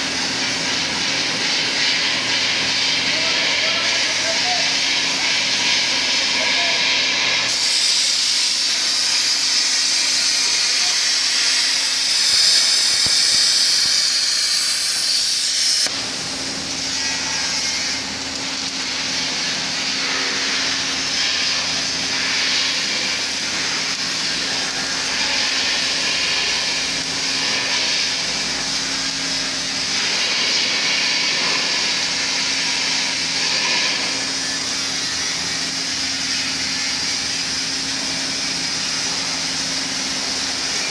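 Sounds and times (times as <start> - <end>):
cutting torch hissing: 0.0 - 40.9.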